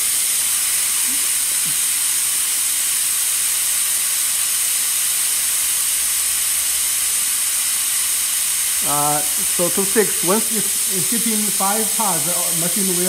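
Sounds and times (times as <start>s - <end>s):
compressed air hissing from valve: 0.0s - 13.0s.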